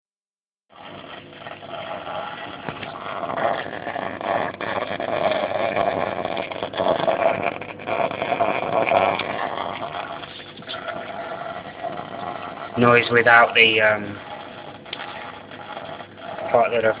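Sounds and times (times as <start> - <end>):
water gurgling down a drain pipe: 0.7 - 17.0.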